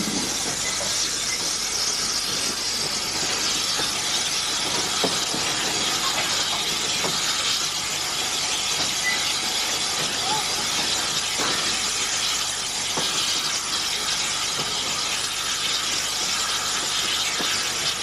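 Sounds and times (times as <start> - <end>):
steam hissing from locomotive: 0.0 - 18.0.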